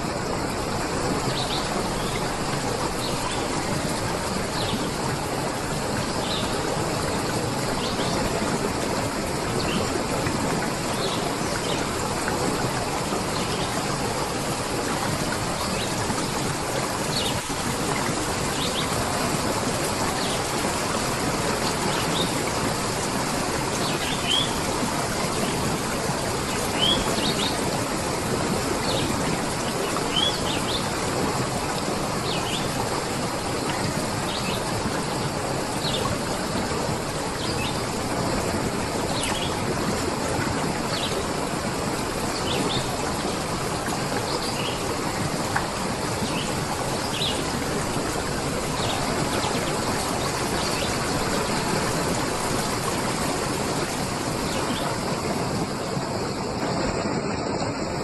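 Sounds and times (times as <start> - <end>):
running water: 0.0 - 58.0.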